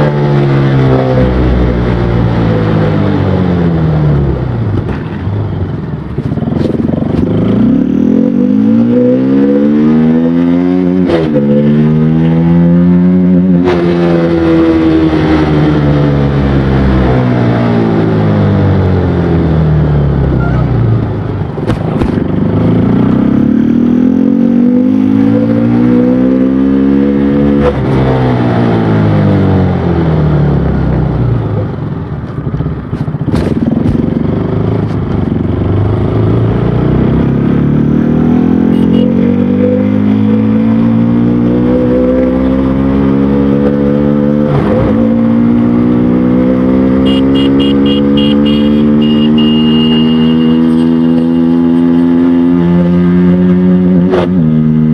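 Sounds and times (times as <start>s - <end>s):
motorcycle engine accelerating hard: 0.0s - 54.9s.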